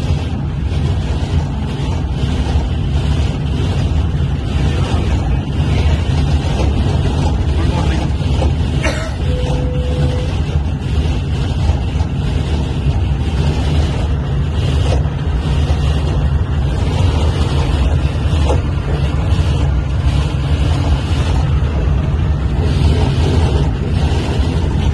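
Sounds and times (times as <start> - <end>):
train rumbling at high speed: 0.0 - 24.9.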